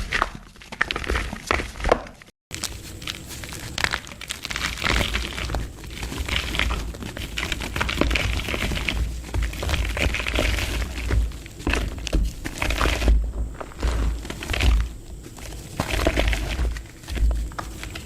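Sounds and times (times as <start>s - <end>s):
dry mud crunching in a plastic pot: 0.0s - 18.0s.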